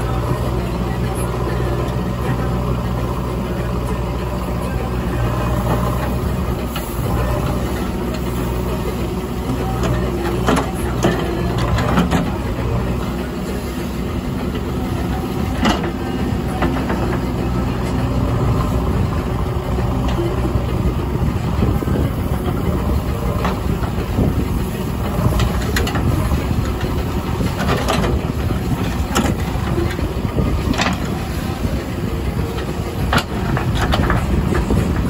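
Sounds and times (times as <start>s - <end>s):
backhoe digging soil: 0.0s - 35.0s
diesel engine running: 0.0s - 35.0s.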